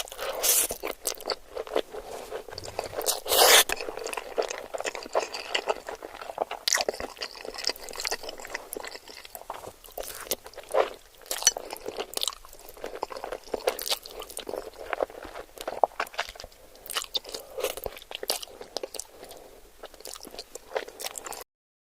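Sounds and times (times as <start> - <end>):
wet chewing of noodles: 0.0 - 21.4.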